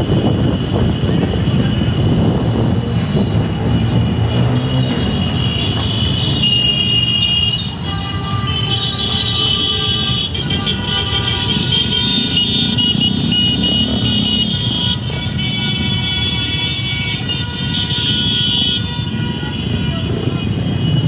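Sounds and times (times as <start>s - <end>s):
motorcycle engines rumbling: 0.0s - 21.0s.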